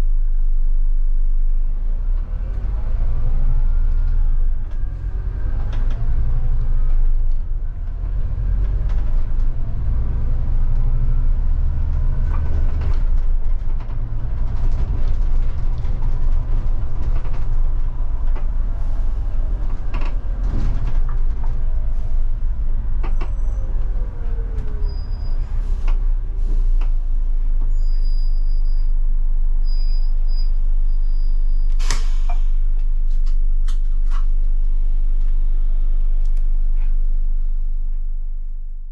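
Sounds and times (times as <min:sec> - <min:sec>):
bus creaks and rattles: 0:00.0 - 0:38.9
bus diesel engine running: 0:00.0 - 0:38.9.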